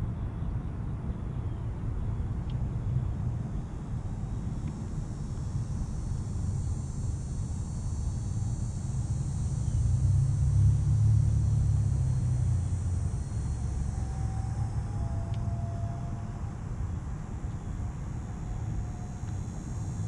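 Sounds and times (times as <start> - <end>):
passing vehicle engine rumble: 0.0 - 20.0.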